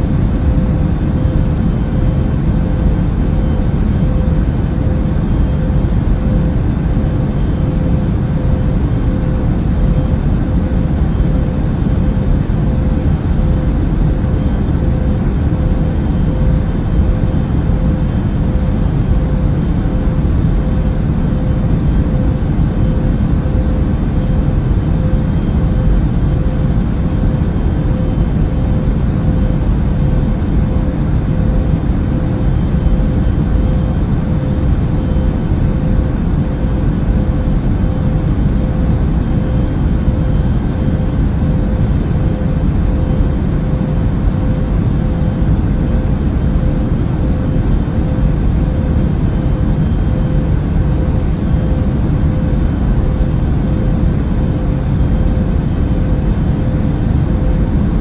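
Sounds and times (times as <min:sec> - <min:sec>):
airliner cabin rumble: 0:00.0 - 0:58.0
faint constant hum: 0:00.0 - 0:58.0.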